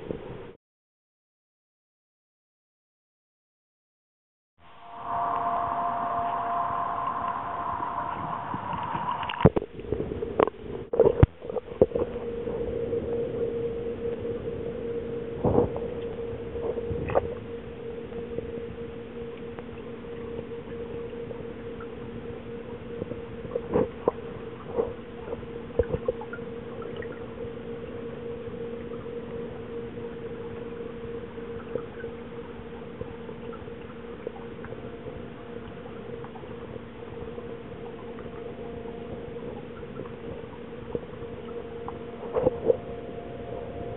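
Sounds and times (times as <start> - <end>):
low two-tone underwater hum: 0.0 - 0.6, 4.6 - 43.9.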